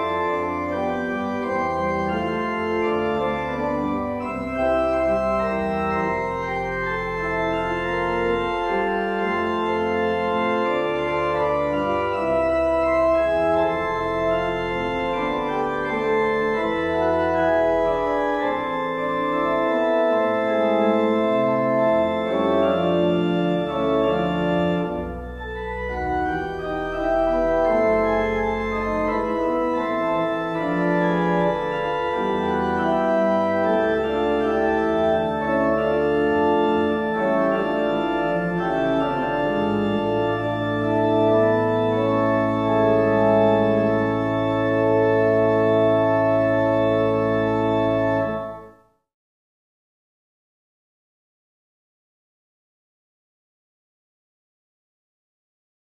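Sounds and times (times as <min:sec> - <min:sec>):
low organ pedal note: 0:00.0 - 0:48.7
pipe organ chords: 0:00.0 - 0:48.8.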